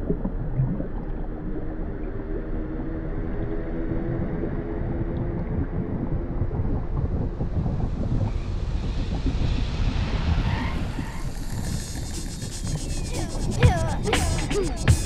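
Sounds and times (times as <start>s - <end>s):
underwater rumble of moving water: 0.0s - 14.8s
churning water and bubbles: 0.0s - 15.0s.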